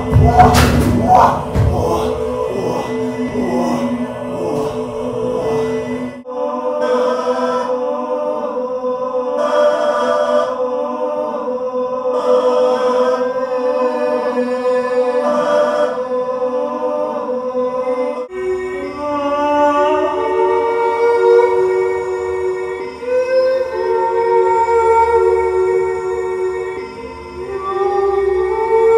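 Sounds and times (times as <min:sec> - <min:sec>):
layered sung vocal drones: 0:00.0 - 0:28.9.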